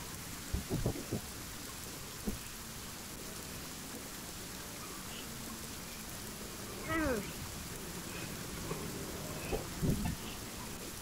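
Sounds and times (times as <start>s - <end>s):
steady rain on water: 0.0s - 11.0s.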